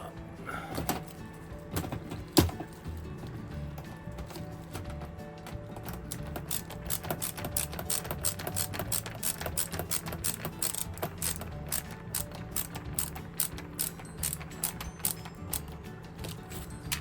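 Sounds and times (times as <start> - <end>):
background music with ticking beat: 0.0 - 17.0.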